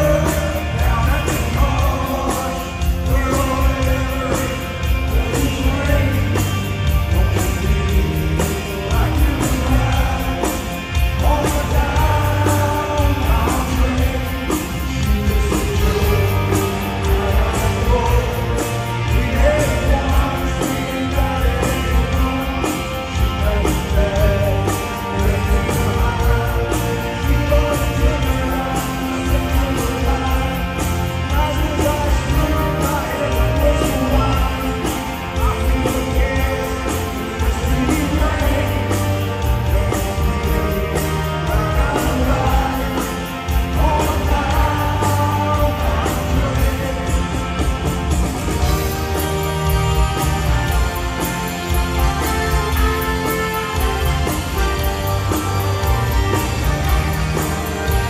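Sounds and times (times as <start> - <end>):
drums: 0.0 - 58.0
electric guitar: 0.0 - 58.0
male lead vocal: 0.0 - 58.0.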